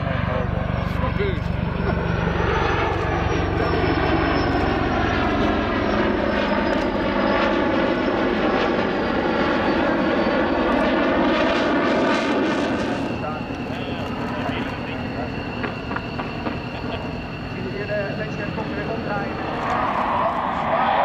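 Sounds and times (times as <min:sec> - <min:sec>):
fighter jet engine whine: 0:00.0 - 0:21.0.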